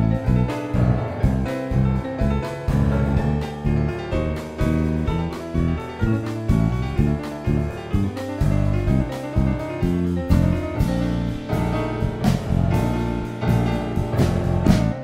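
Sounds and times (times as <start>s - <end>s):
busy low bass line: 0.0s - 15.0s
piano: 0.0s - 15.0s.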